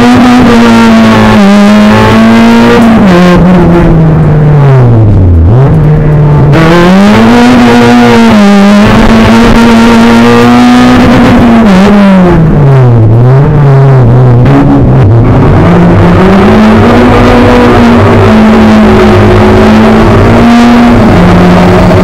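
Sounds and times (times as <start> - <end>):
race car engine driven hard: 0.0 - 22.0.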